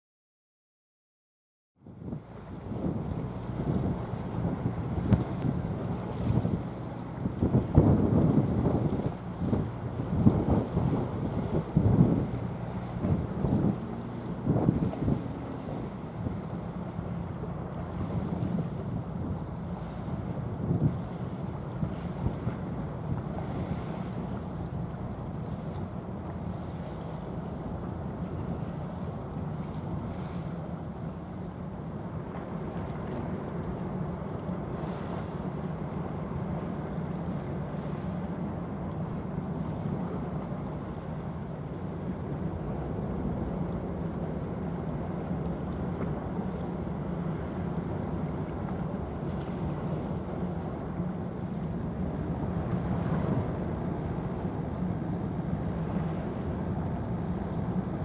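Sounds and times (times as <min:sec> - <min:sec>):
rushing bow wave water: 0:01.8 - 0:58.0
ship engine drone: 0:01.8 - 0:58.0.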